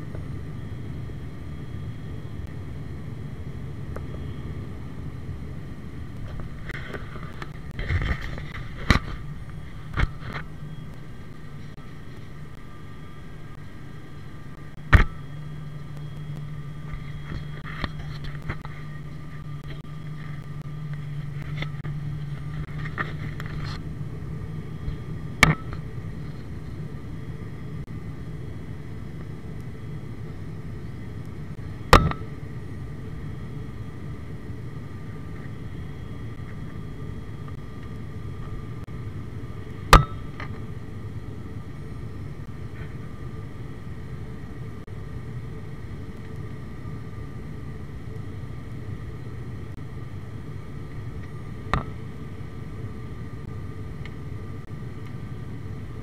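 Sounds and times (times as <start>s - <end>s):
turboprop engines droning in cabin: 0.0s - 56.0s.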